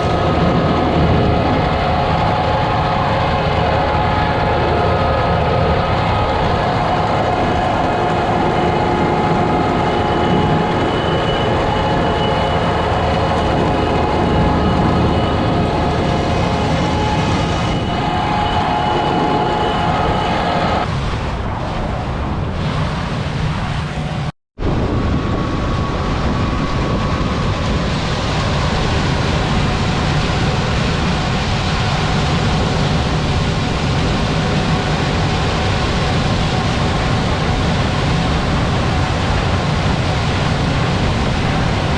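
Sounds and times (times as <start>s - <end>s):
heavy engine drone: 0.0s - 41.9s
mechanical whine: 0.0s - 41.9s.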